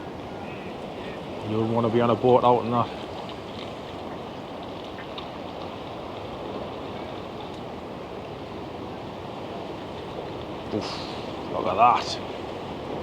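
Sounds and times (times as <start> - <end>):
rough sea surf rushing: 0.0 - 13.0.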